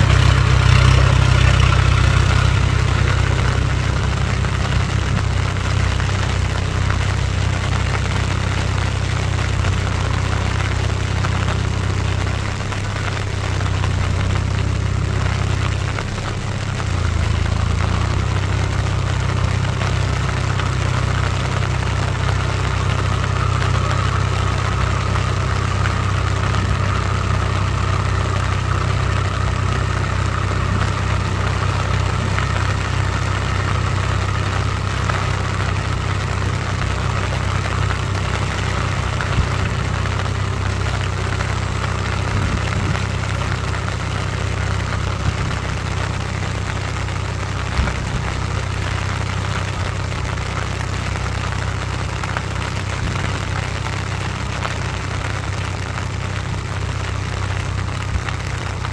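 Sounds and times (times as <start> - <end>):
steady hiss: 0.0 - 58.9
tractor diesel engine running: 0.0 - 58.9.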